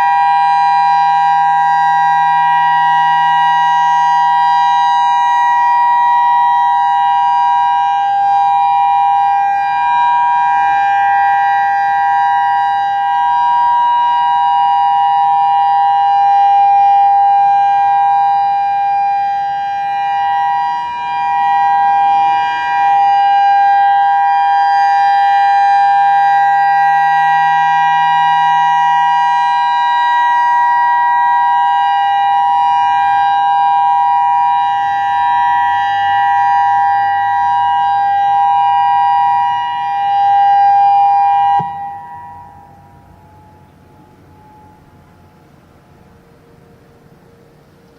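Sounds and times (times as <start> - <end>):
two-note warning siren: 0.0 - 47.9.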